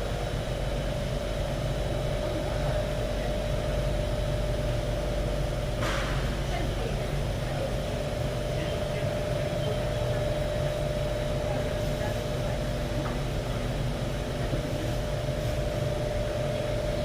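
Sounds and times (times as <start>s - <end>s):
constant hum: 0.0s - 17.0s
metro train cabin rumble: 0.0s - 17.0s.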